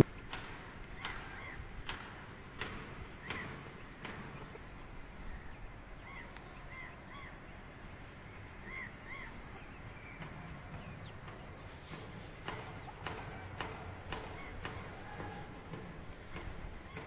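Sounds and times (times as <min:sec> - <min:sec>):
faint outdoor background: 0:00.0 - 0:17.0
chickens chirping softly: 0:02.6 - 0:17.0.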